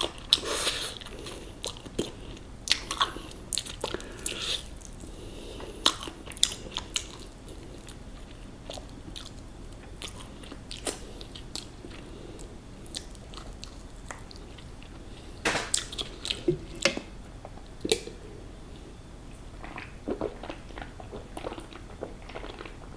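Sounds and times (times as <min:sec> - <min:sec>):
person chewing: 0:00.0 - 0:22.9.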